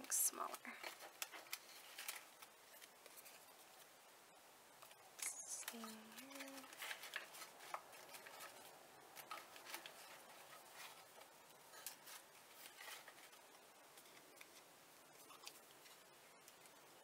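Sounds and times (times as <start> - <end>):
paper rustling: 0.6 - 3.9, 4.8 - 17.0.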